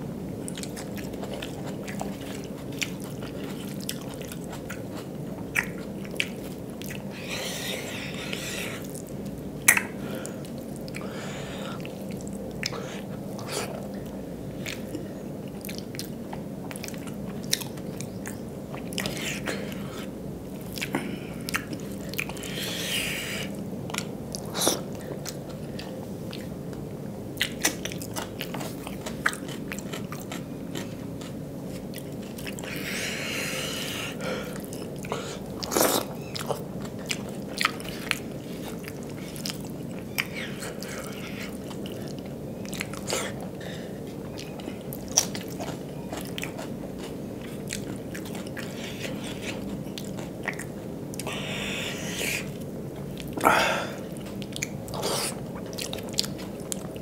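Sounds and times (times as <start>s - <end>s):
faint steady hum: 0.0s - 57.0s
person chewing: 0.5s - 26.8s, 27.4s - 57.0s.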